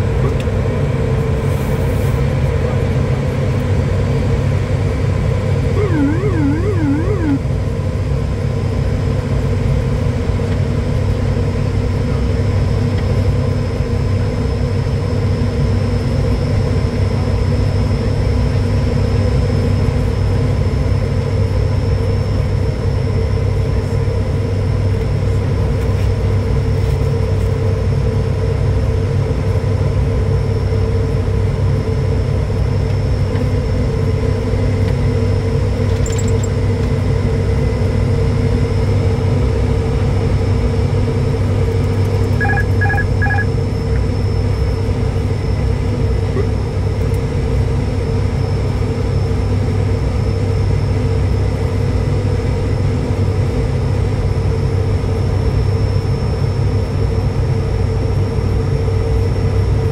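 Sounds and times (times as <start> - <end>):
turboprop engines droning: 2.3 - 59.9.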